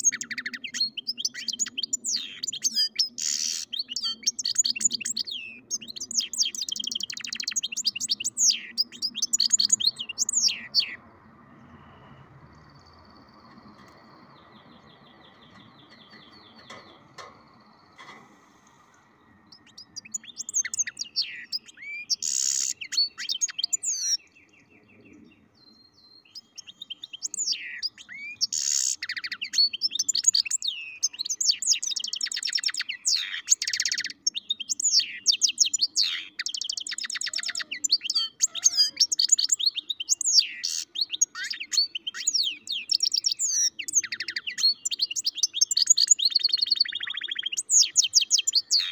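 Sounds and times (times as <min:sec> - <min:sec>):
bird singing twittering song: 0:00.0 - 0:48.9.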